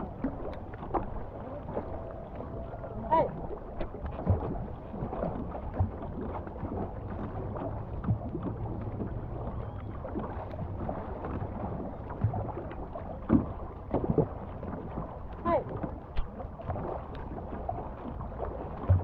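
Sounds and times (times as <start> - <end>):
paddle strokes splashing: 0.0 - 19.0
water washing along hull: 0.0 - 19.0.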